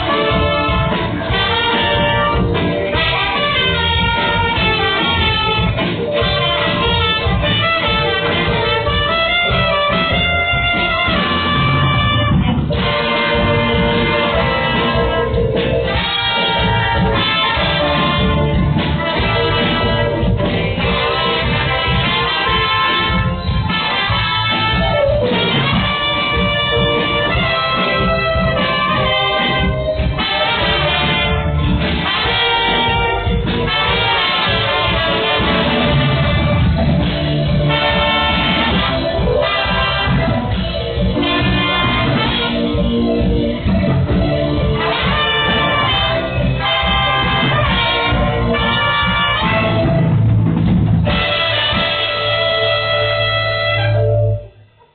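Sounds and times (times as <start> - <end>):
steady bass: 0.0 - 54.8
brass-like melody: 0.0 - 54.9
live band music: 0.0 - 54.9.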